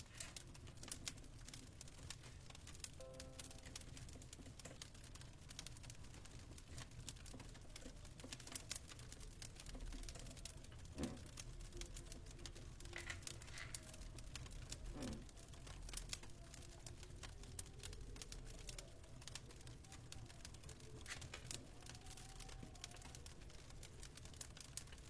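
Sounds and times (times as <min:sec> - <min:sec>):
fire pops and snaps: 0:00.0 - 0:25.0
low fire rumble: 0:00.0 - 0:25.0.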